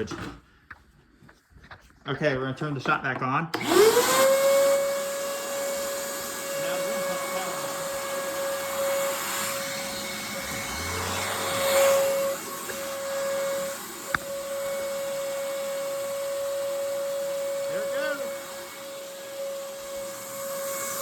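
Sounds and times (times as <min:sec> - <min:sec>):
shop vacuum whine and rushing air: 0:03.6 - 0:21.0.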